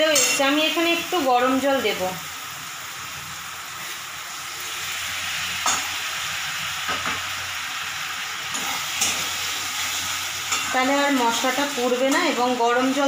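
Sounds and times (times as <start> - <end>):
sauce sizzling in oil: 0.0 - 13.0.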